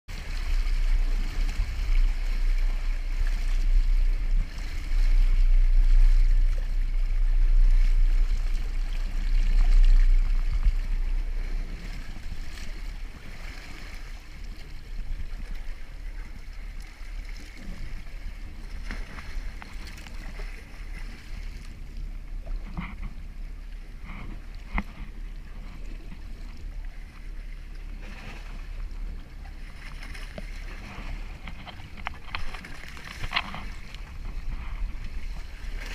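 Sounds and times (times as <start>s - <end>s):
heavy low rumble: 0.1s - 35.9s
sea water sloshing and splashing: 0.1s - 35.9s.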